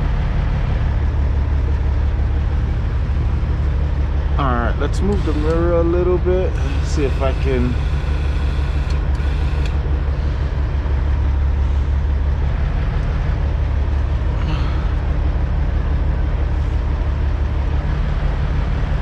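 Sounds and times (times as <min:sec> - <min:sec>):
truck diesel engine rumble: 0:00.0 - 0:19.0.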